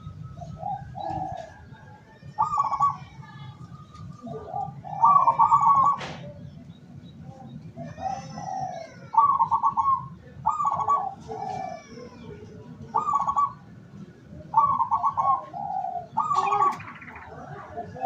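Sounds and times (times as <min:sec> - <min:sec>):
doves cooing: 0:00.0 - 0:06.7, 0:07.3 - 0:18.0.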